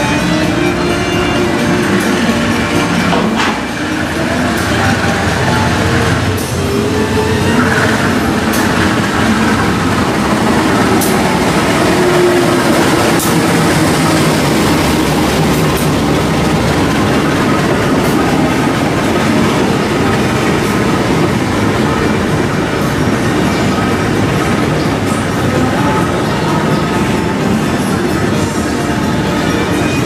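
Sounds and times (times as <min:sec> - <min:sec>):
diesel locomotive engine running: 0:00.0 - 0:30.0
train wheels rumbling on rail: 0:00.0 - 0:30.0.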